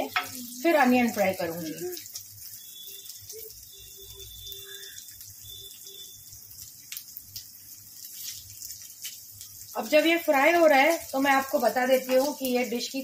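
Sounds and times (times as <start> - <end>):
coconut sizzling in oil: 0.0 - 13.0.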